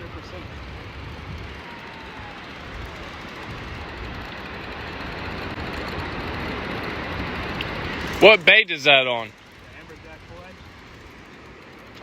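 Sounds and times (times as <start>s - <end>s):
surf on beach: 0.0s - 12.0s
wind: 0.0s - 12.0s.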